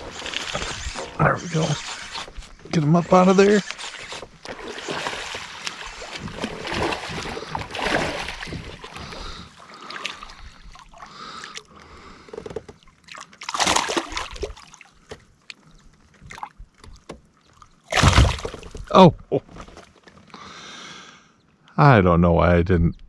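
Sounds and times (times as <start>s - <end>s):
water splashing and sloshing: 0.0s - 18.9s.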